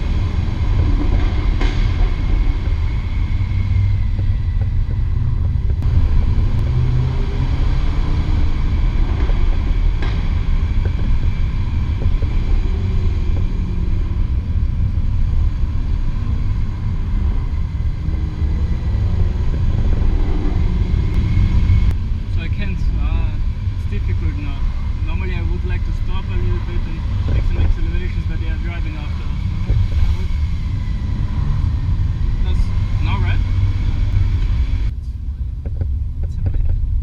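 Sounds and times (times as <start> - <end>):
deep car exhaust rumble: 0.0 - 37.0.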